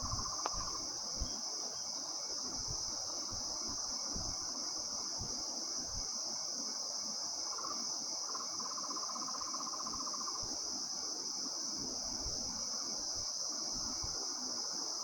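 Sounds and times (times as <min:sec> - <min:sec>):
insect chorus drone: 0:00.0 - 0:15.0
rapid pulsed insect trill: 0:00.0 - 0:15.0.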